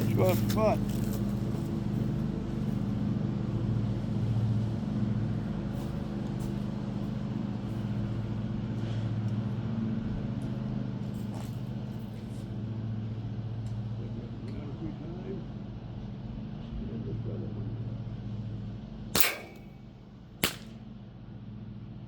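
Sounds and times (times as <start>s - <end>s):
vehicle engine humming: 0.0s - 21.6s.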